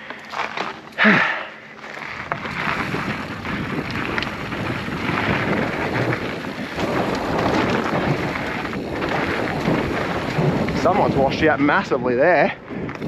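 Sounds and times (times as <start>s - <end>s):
bike tyres crunching on dirt: 0.0s - 13.0s
wind on microphone: 2.2s - 13.0s.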